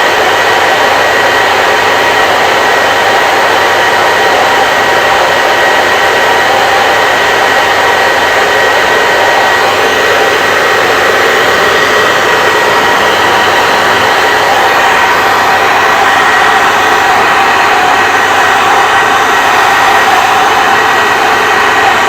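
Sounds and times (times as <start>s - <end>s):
hair dryer running: 0.0s - 22.0s.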